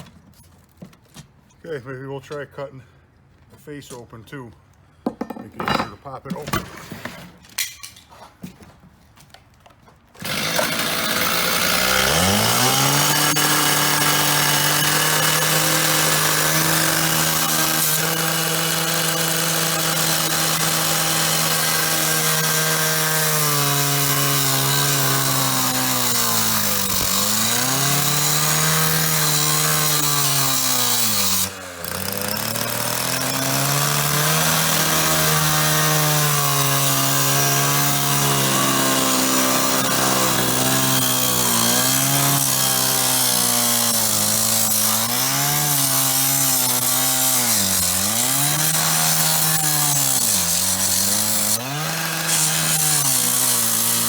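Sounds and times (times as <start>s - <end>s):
power tool cutting metal: 10.2s - 54.0s.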